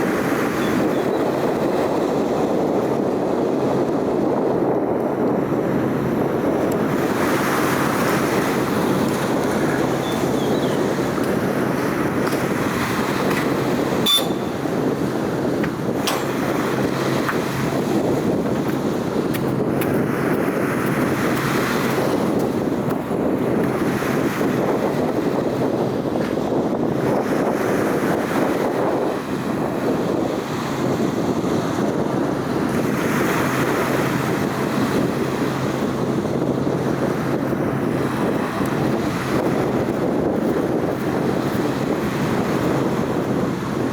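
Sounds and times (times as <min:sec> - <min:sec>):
wind blowing across microphone: 0:00.0 - 0:43.9.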